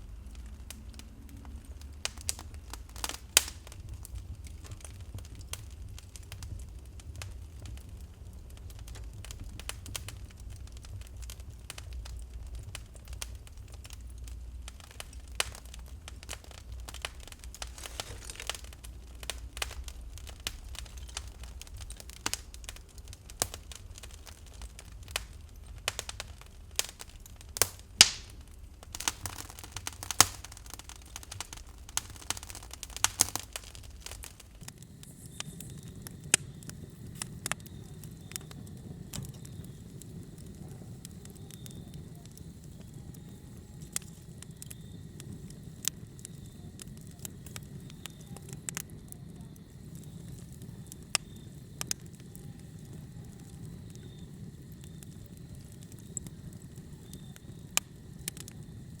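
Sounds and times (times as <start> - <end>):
low steady fire rumble: 0.0 - 59.0
wood fire crackling and popping: 0.0 - 59.0.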